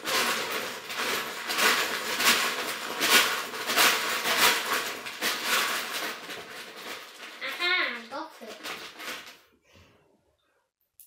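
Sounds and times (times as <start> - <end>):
plastic pieces clattering: 0.0 - 9.5.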